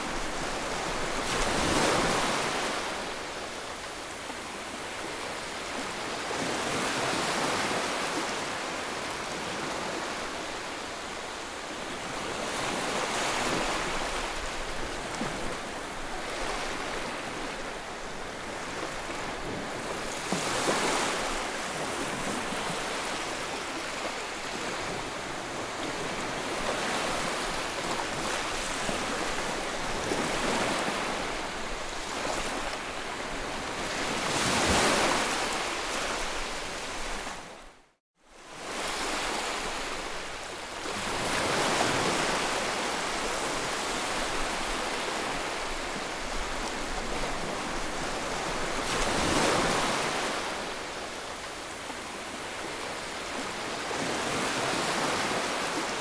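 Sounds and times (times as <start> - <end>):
ocean waves breaking: 0.0 - 10.7, 12.0 - 37.6, 40.8 - 56.0.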